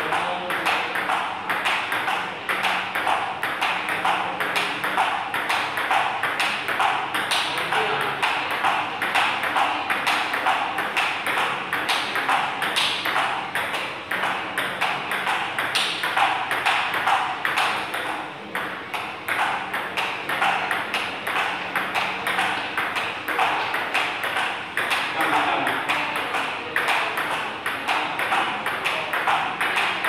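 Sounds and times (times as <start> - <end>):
table tennis bat hits: 0.0 - 30.0
ball bouncing on table: 0.1 - 30.0.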